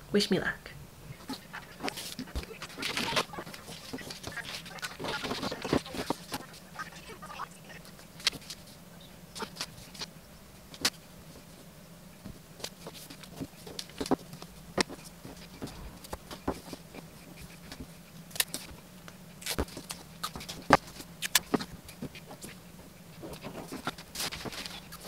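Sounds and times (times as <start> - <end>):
faint low hum: 0.0 - 25.0
paper rustling: 1.2 - 10.1, 12.2 - 25.0.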